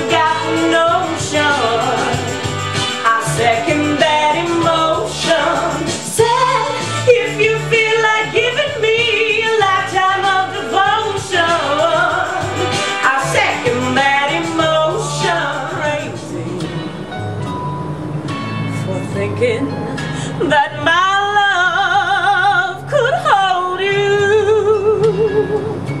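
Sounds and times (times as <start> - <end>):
woman singing: 0.0 - 17.0, 18.8 - 25.8
instrumental accompaniment: 0.0 - 21.2.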